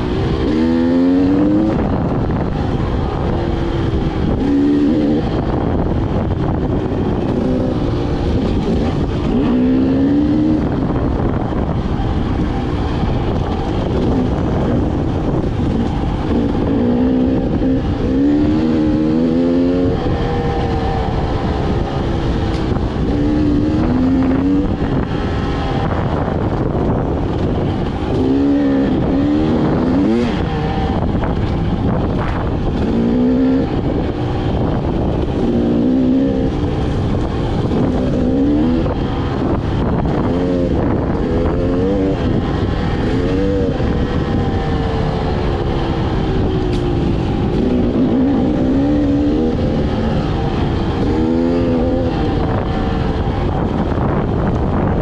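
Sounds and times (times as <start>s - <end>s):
dirt bike engine revving: 0.0s - 54.9s
steady rushing noise: 0.0s - 55.0s.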